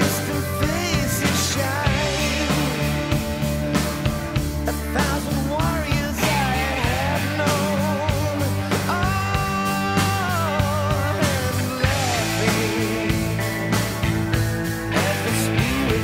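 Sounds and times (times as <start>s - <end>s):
person singing: 0.0s - 14.0s, 14.9s - 16.0s
held bass notes: 0.0s - 16.0s
steady drum beat: 0.0s - 16.0s.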